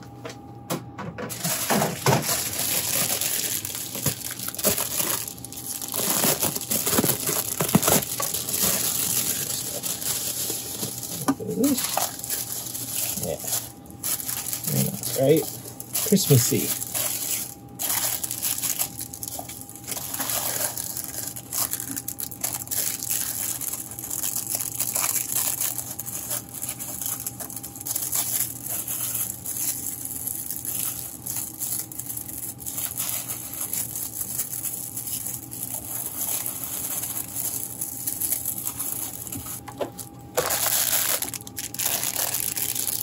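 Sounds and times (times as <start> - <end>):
plastic and paper crinkling: 1.3 - 43.0.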